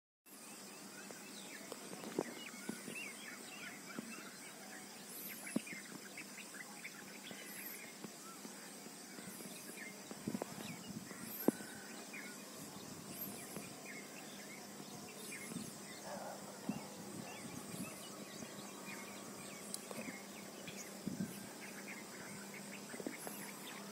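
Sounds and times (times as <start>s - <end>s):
faint steady hiss: 0.3s - 23.9s
small birds chirping: 0.3s - 23.9s.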